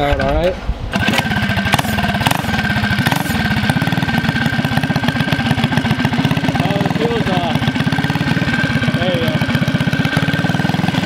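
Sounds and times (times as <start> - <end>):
small engine starting and idling: 0.9 - 11.0.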